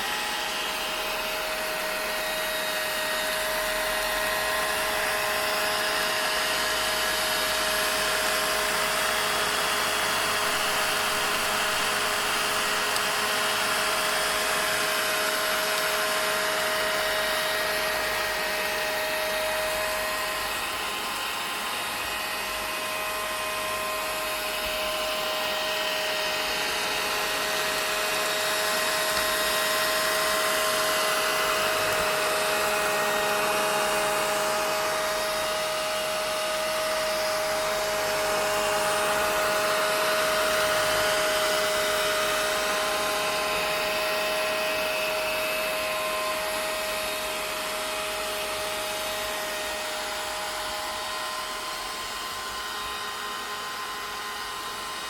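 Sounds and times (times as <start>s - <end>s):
vacuum cleaner motor whirring: 0.0s - 55.0s.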